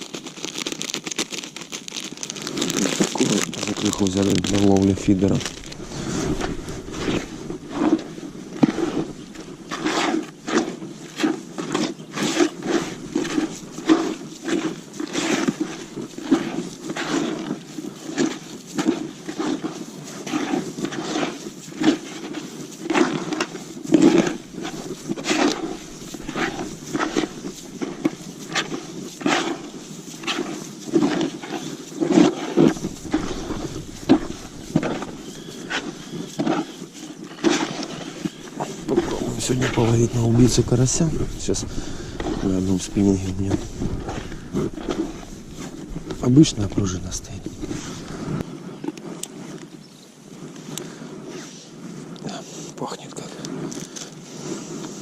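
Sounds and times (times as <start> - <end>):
squelching mixing strokes in a bucket: 0.0 - 55.0.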